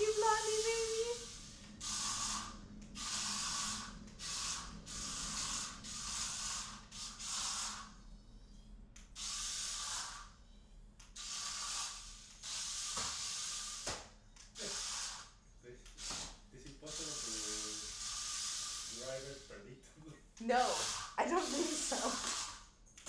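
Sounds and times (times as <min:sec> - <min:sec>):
small electric motors whirring: 0:00.0 - 0:08.0, 0:09.0 - 0:10.4, 0:11.0 - 0:19.6, 0:20.4 - 0:22.7.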